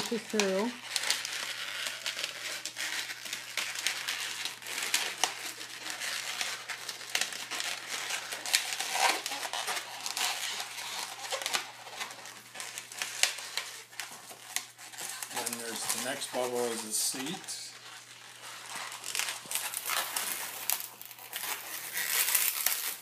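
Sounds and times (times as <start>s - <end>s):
balloon rubbing and crinkling: 0.0s - 23.0s
balloon squeaks: 0.0s - 23.0s.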